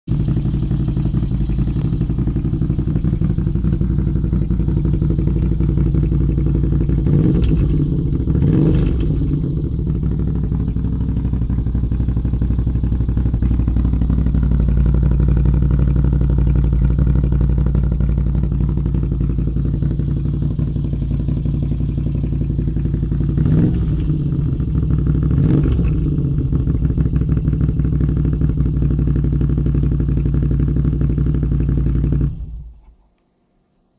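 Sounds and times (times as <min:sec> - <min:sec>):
engine throttle blips: 0:00.1 - 0:32.8
motorcycle engine idling: 0:00.1 - 0:32.9.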